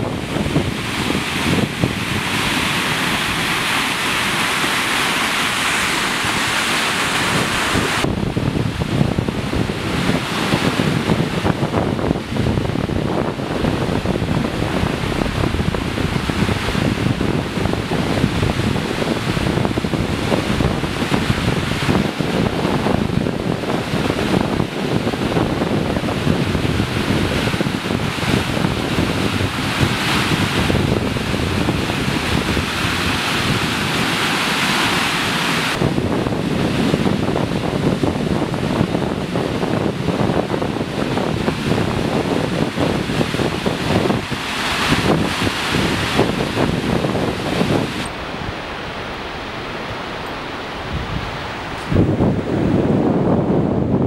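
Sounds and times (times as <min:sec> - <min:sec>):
flood water rushing: 0:00.0 - 0:54.0.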